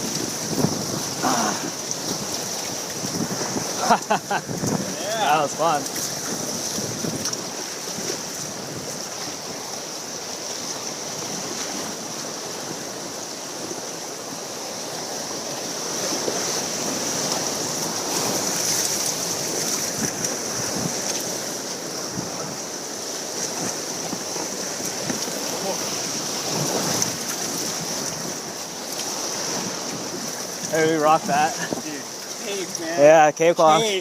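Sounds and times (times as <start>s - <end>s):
whitewater rushing: 0.0s - 34.0s.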